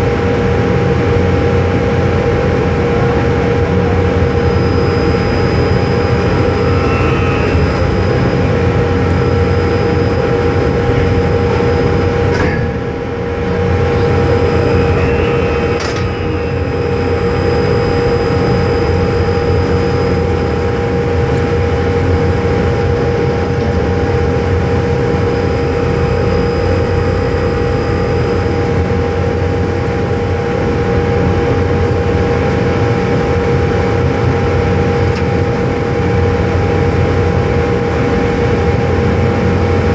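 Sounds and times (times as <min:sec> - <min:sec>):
heavy engine drone: 0:00.0 - 0:39.9
steady high whine: 0:00.0 - 0:39.9.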